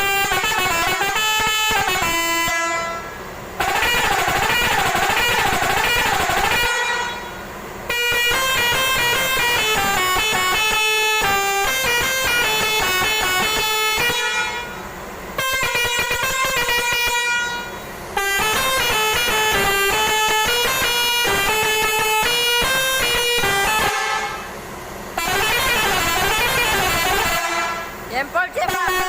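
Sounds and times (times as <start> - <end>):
bus air horn melody: 0.0 - 29.0.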